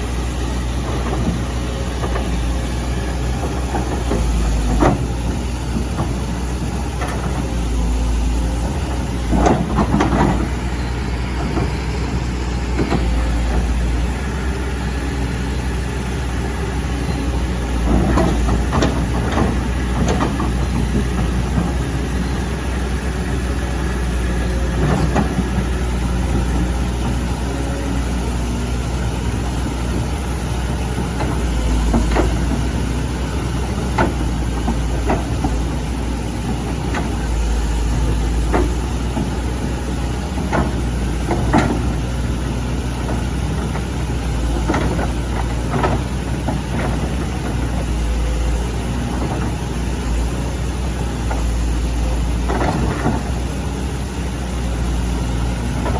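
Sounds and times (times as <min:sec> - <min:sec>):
excavator clanks and knocks: 0:00.0 - 0:55.9
excavator diesel engine running: 0:00.0 - 0:55.9.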